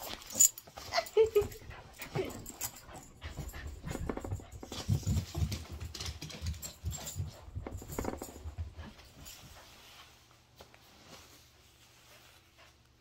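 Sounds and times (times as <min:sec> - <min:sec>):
soft dog sounds: 0:00.0 - 0:13.0.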